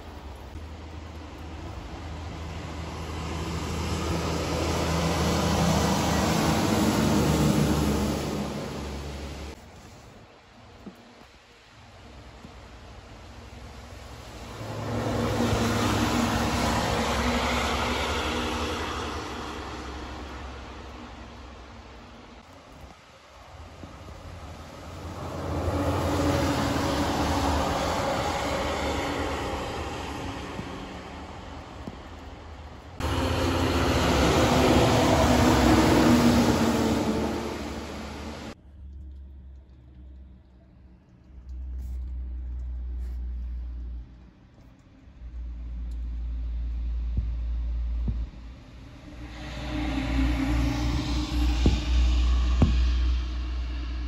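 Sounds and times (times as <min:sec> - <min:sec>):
truck diesel engine drone: 0:00.0 - 0:09.6, 0:13.3 - 0:22.4, 0:23.7 - 0:54.0.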